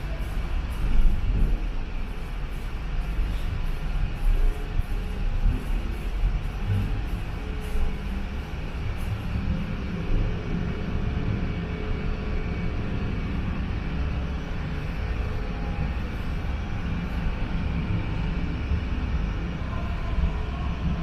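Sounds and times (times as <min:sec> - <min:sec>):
factory machinery rumbling: 0:00.0 - 0:21.0.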